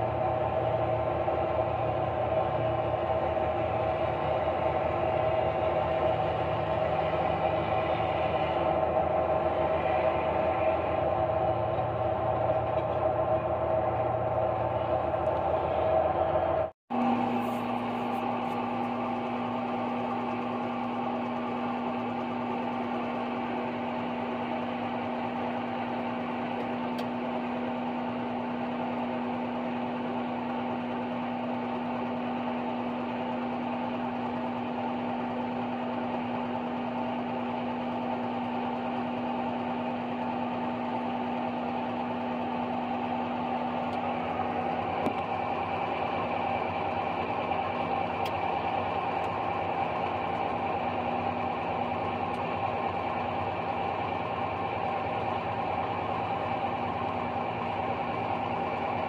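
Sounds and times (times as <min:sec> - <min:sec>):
constant low hum: 0:00.0 - 0:59.0
forage harvester mechanical drone: 0:00.0 - 0:59.0.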